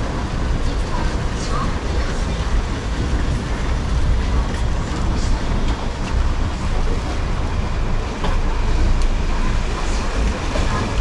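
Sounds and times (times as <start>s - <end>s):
low rumble of city traffic: 0.0s - 11.0s.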